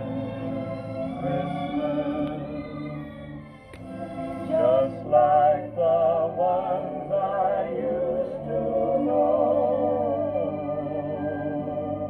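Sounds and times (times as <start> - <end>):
vinyl record playing a song: 0.0 - 12.0.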